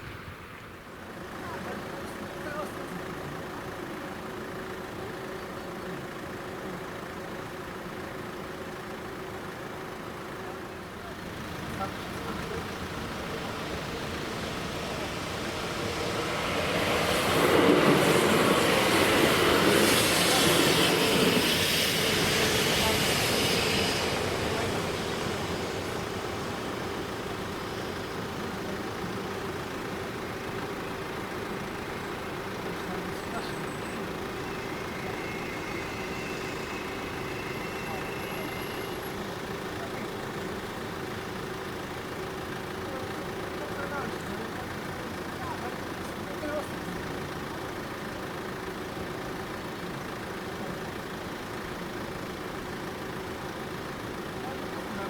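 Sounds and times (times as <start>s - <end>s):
diesel railcar passing: 0.0s - 55.0s
engine idling: 0.0s - 55.0s
road traffic noise: 0.0s - 55.0s.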